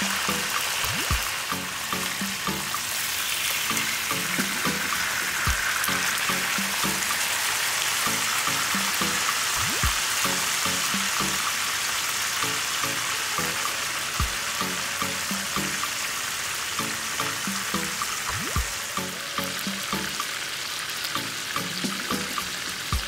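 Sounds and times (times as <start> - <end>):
background music: 0.0 - 3.0, 3.6 - 11.6, 12.4 - 16.1, 16.7 - 23.0
fish sizzling in oil: 0.0 - 23.0.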